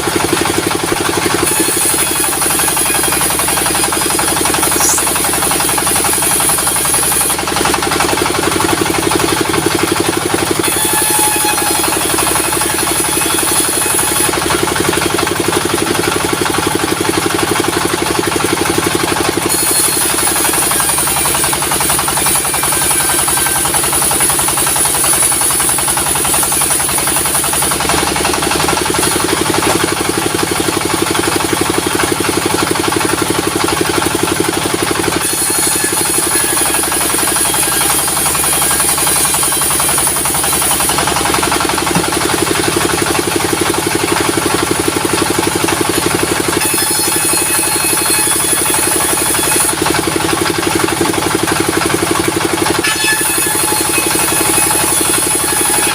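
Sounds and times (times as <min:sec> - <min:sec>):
diesel engine running: 0:00.0 - 0:55.9
saw cutting through log: 0:00.0 - 0:55.9.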